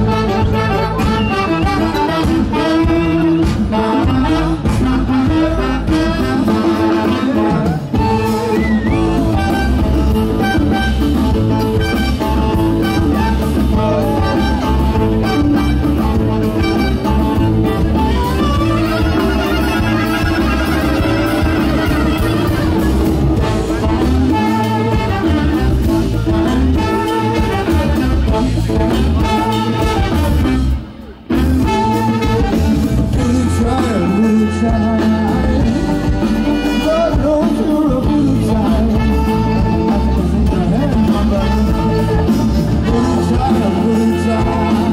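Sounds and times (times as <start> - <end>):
person singing: 0.0 - 30.5, 31.3 - 44.9
live band playing: 0.0 - 44.9.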